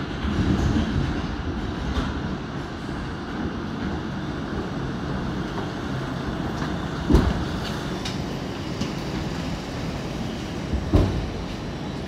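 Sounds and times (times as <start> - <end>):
subway car rumble: 0.0 - 12.0.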